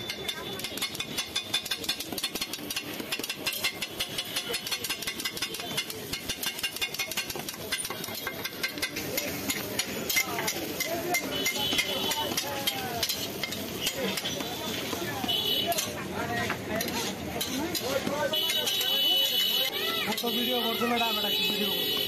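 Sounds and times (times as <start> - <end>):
metal spatula clacking on griddle: 0.0 - 20.8.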